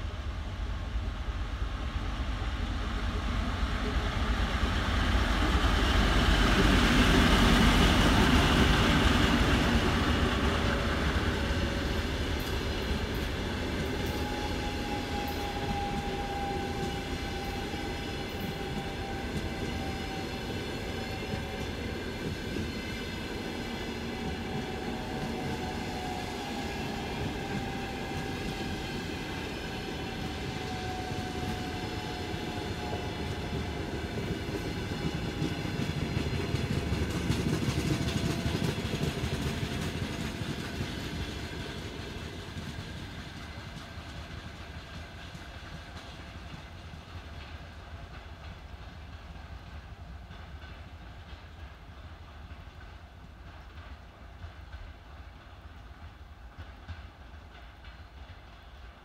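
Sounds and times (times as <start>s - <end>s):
diesel locomotive passing: 0.0s - 59.0s
train coaches rolling on rails: 1.9s - 59.0s.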